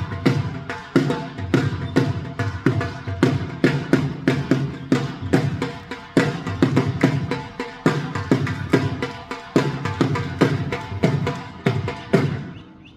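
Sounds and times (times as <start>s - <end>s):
bhangra music: 0.0s - 12.9s
dhol drum beat: 0.0s - 12.9s.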